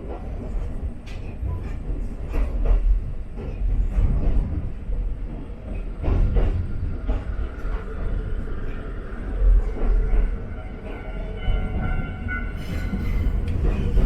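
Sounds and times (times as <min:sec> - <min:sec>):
railcar low rumble: 0:00.0 - 0:14.0.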